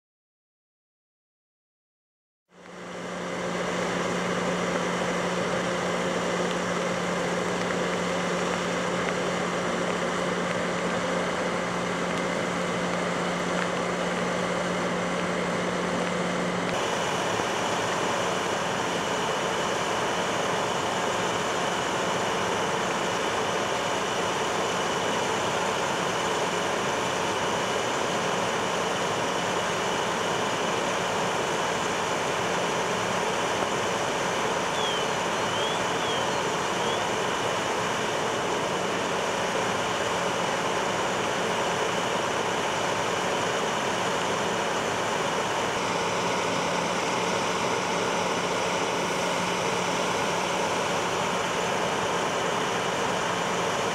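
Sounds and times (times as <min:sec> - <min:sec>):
fire engines droning: 0:02.5 - 0:53.9.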